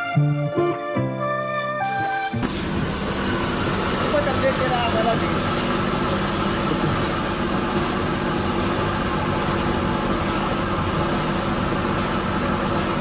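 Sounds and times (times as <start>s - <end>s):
vehicle engine running: 2.4s - 13.0s.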